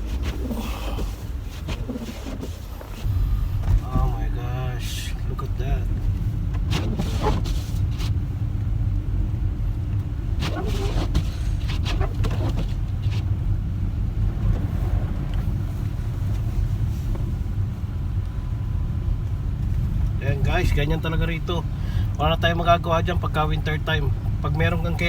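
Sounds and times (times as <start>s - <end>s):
engine and tyre rumble: 0.0s - 25.0s.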